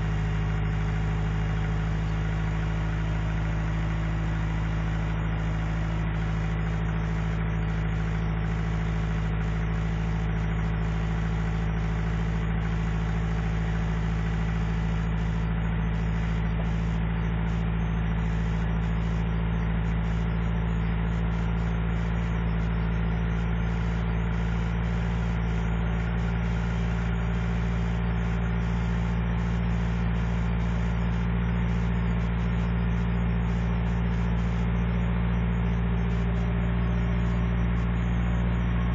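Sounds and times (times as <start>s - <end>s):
truck engine idling: 0.0s - 38.9s.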